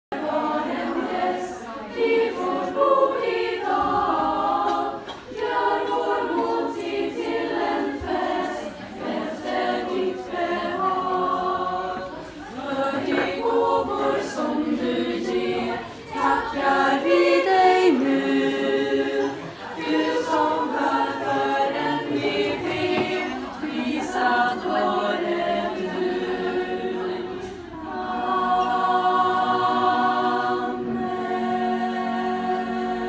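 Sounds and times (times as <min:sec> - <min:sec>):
women's choir singing a cappella: 0:00.1 - 0:33.0.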